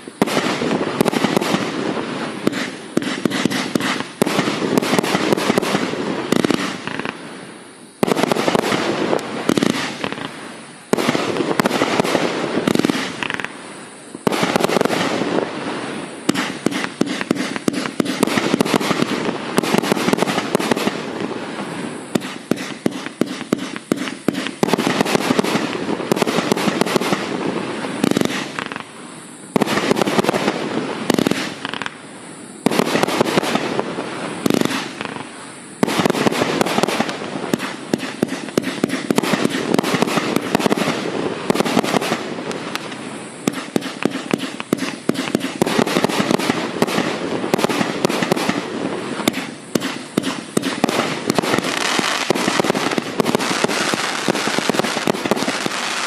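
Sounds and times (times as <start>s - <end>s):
fireworks shots and bursts: 0.0s - 56.0s.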